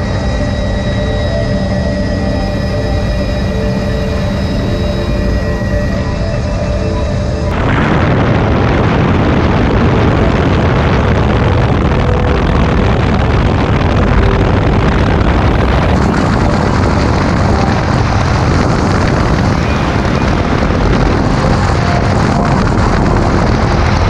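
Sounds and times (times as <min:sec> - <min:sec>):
helicopter rotor and engine: 0:00.0 - 0:24.0
wind rushing over microphone: 0:00.0 - 0:24.0.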